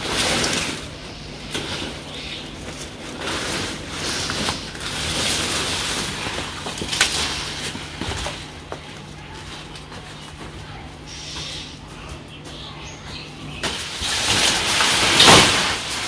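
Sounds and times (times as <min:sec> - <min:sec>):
leaves rustling and snapping: 0:00.0 - 0:10.6, 0:13.6 - 0:16.0.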